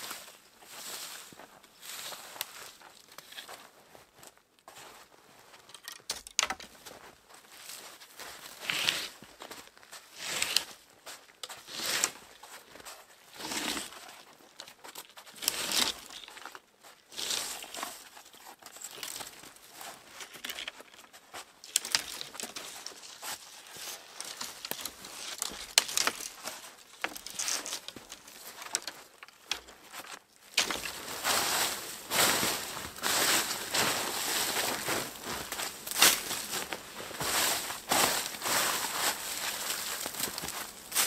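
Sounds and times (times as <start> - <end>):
crunching and rustling: 7.6 - 41.0.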